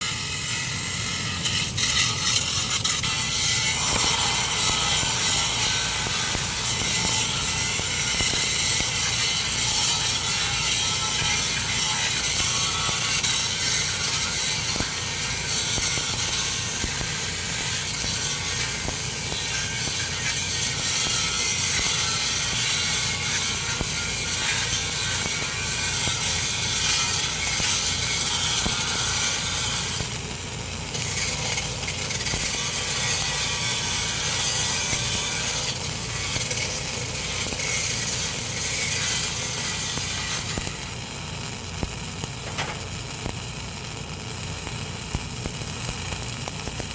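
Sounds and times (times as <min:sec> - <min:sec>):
arc welding crackle: 0:00.0 - 0:46.9.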